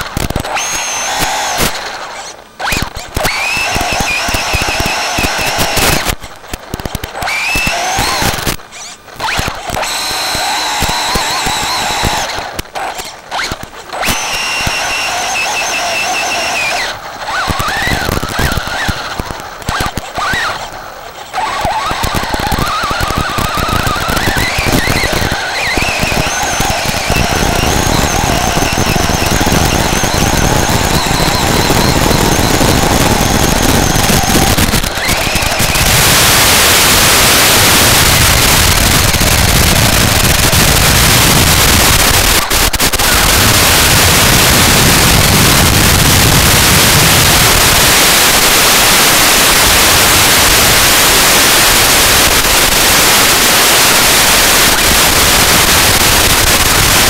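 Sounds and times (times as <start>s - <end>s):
loud static hiss: 0.0s - 57.0s
toy car electric motor whine: 0.0s - 57.0s.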